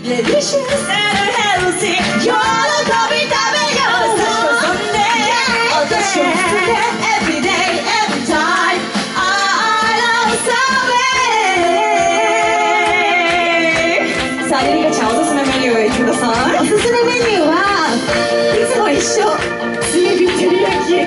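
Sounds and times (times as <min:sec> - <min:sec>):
women singing into microphones: 0:00.0 - 0:17.9
backing music with steady beat: 0:00.0 - 0:21.0.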